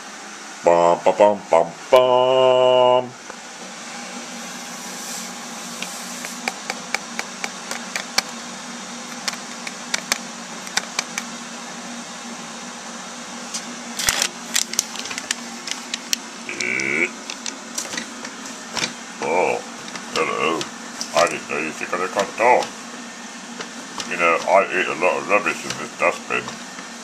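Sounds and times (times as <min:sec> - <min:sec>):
kettle hissing and humming: 0:03.2 - 0:27.0.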